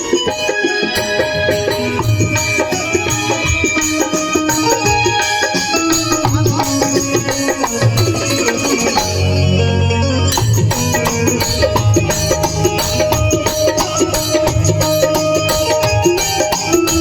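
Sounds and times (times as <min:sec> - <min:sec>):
hand drums: 0:00.0 - 0:09.6, 0:10.3 - 0:17.0
jingling percussion: 0:00.0 - 0:17.0.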